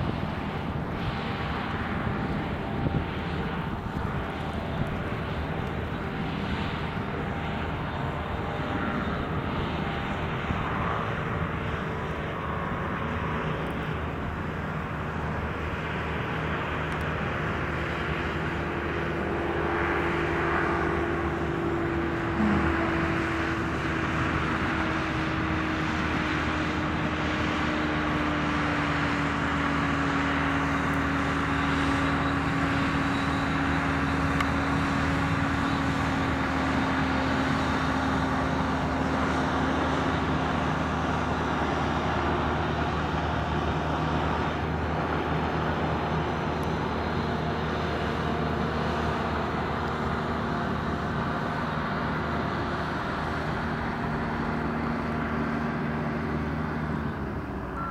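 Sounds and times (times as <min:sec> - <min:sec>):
propeller engine droning overhead: 0:00.0 - 0:57.9.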